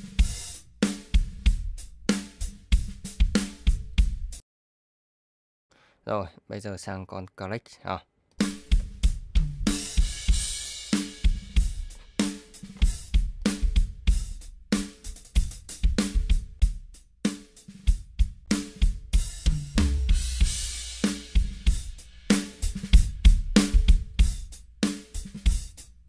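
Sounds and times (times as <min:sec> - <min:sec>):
drum-heavy music mix: 0:00.0 - 0:04.4, 0:08.4 - 0:26.0.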